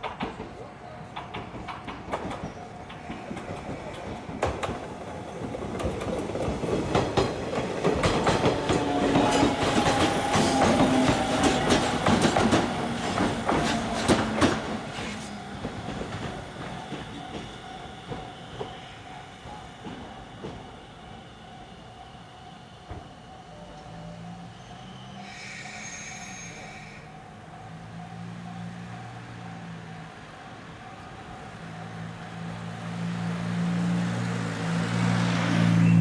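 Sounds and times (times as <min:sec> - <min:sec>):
train wheels clacking on rails: 0:00.0 - 0:34.0.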